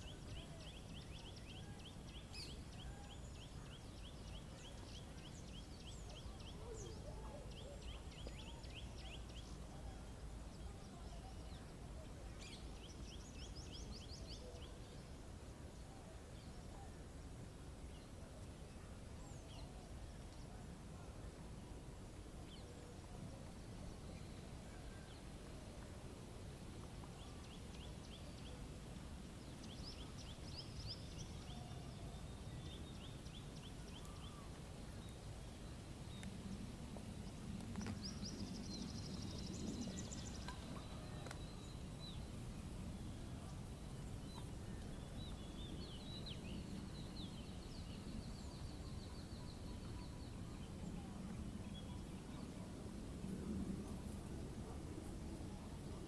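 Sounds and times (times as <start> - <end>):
low outdoor background rumble: 0.0 - 56.0.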